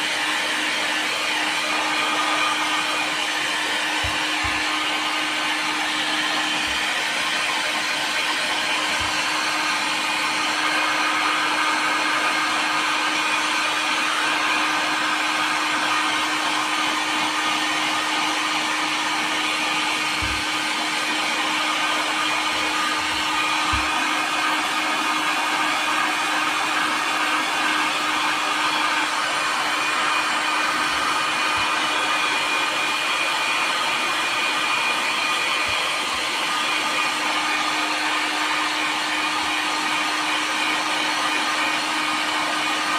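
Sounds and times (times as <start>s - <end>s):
heat gun fan humming: 0.0s - 42.9s.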